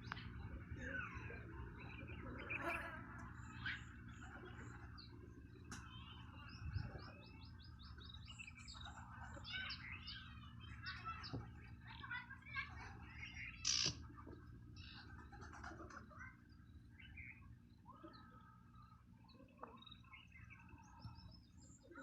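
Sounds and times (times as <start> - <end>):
birds chirping and calling: 0.0 - 22.0
low steady hum: 0.0 - 22.0.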